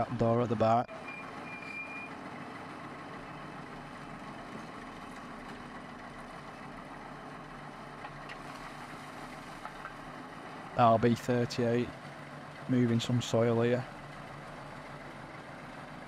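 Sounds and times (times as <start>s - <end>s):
excavator running: 0.0s - 16.0s.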